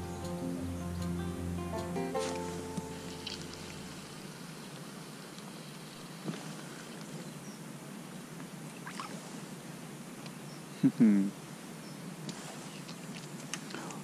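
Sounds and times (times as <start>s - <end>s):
steady light hiss: 0.0s - 14.0s.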